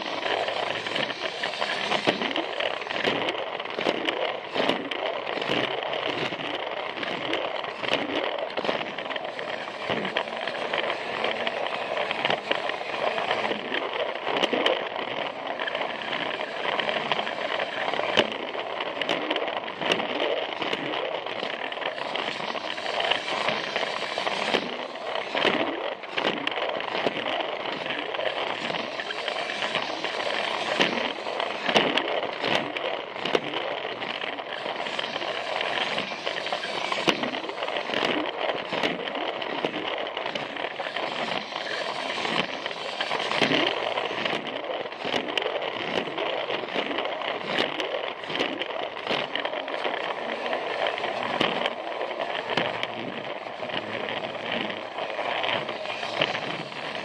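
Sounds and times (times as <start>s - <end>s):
toy train motor running: 0.0s - 57.0s
wheels clicking on plastic track: 0.0s - 57.0s.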